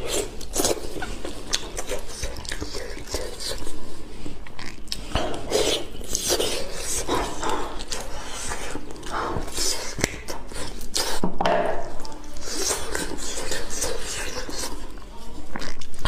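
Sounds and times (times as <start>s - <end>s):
chewing and lip-smacking: 0.0s - 16.0s.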